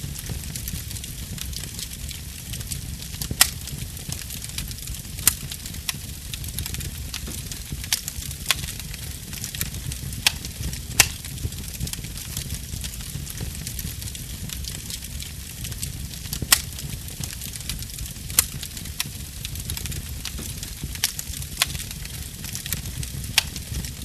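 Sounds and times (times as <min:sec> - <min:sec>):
low rumble of flame: 0:00.0 - 0:24.0
wood fire crackling: 0:00.0 - 0:24.0.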